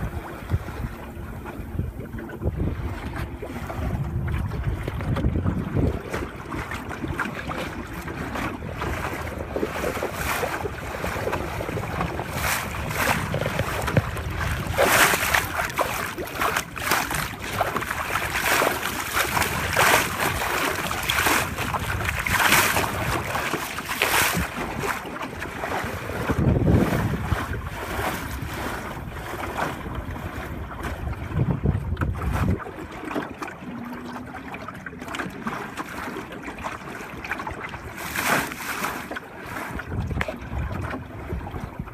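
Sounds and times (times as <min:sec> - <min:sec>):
wind buffeting microphone: 0:00.0 - 0:35.6, 0:39.5 - 0:41.9
water rushing along boat hull: 0:00.0 - 0:41.9.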